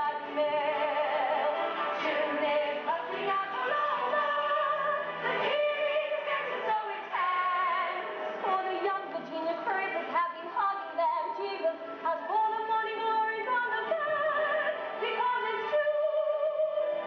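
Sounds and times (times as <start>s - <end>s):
woman singing over music: 0.0s - 17.0s.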